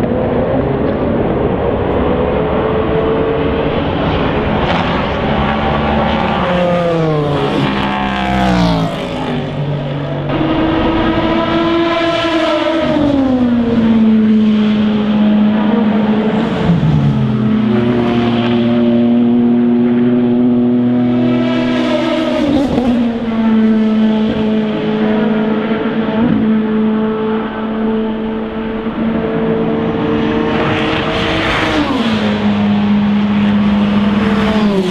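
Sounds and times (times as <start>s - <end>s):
race car engines passing: 0.0s - 34.9s.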